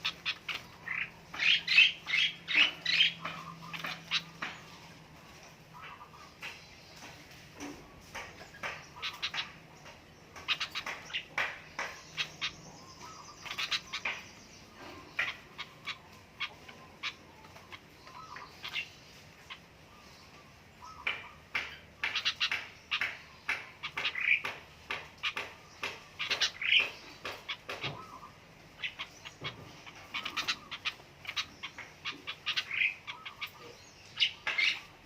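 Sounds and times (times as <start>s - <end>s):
small birds chirping and squawking: 0.0s - 35.0s.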